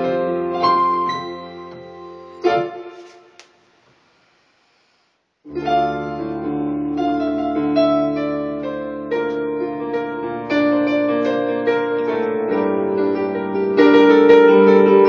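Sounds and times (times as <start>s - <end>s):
piano chords: 0.0s - 3.1s, 5.5s - 15.0s.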